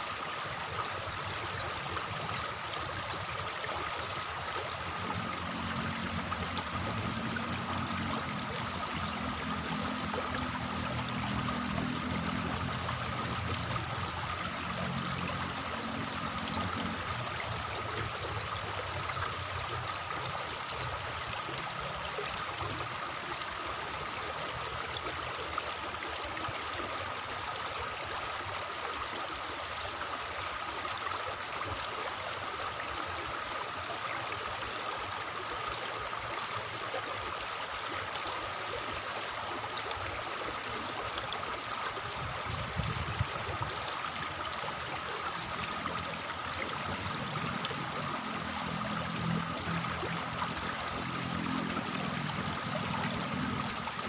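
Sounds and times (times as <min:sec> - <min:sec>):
water flowing in a channel: 0:00.0 - 0:54.0.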